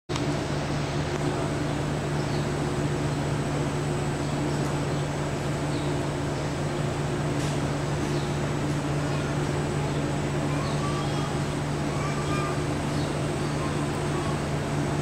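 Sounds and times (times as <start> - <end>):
low mechanical hum: 0.1 - 15.0.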